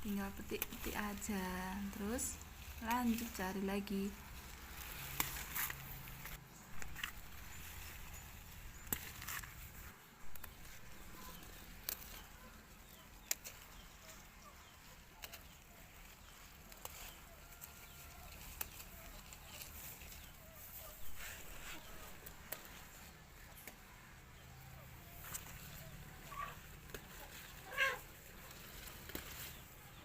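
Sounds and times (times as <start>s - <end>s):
faint rustling: 0.0s - 30.0s.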